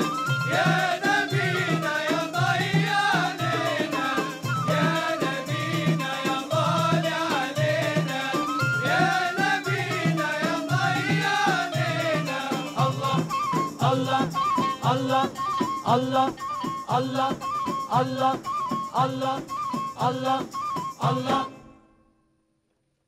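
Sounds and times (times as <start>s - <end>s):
frame drum beat: 0.0s - 21.5s
male choir singing: 0.0s - 21.6s
ney flute: 0.0s - 21.9s.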